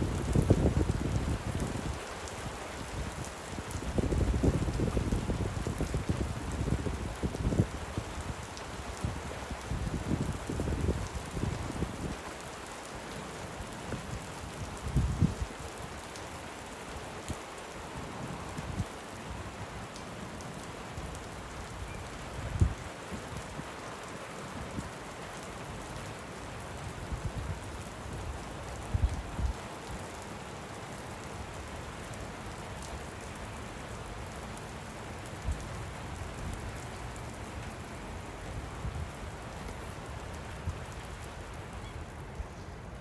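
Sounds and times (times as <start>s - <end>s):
light rain falling: 0.0s - 43.0s.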